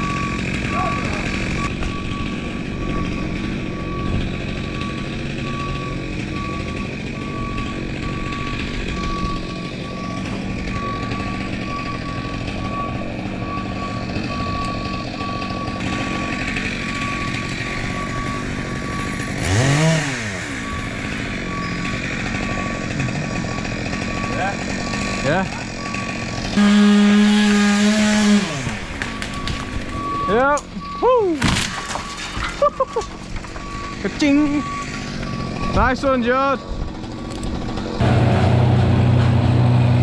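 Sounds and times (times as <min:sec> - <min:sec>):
reversing alarm beeping: 0:00.0 - 0:37.2
engine rumble: 0:00.0 - 0:40.0.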